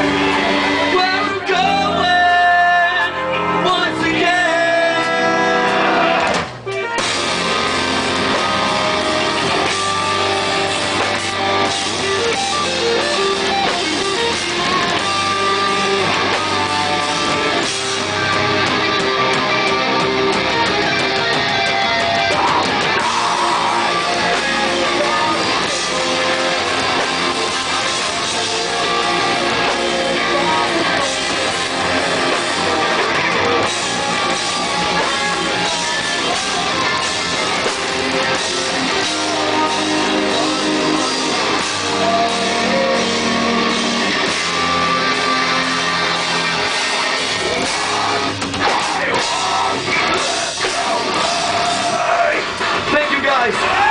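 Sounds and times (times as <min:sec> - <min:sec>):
distorted electric guitar: 0:00.0 - 0:53.9
drum kit with crashing cymbals: 0:07.0 - 0:53.2.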